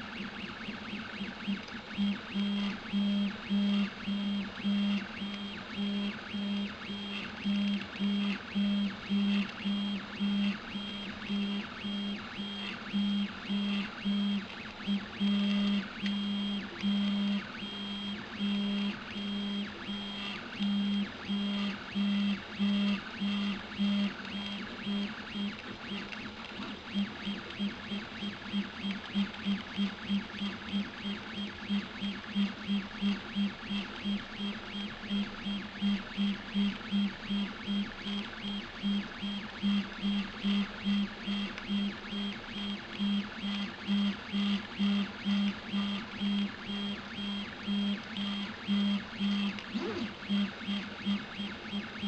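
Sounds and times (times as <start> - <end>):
three d printer stepper motors whining: 0.0 - 52.0.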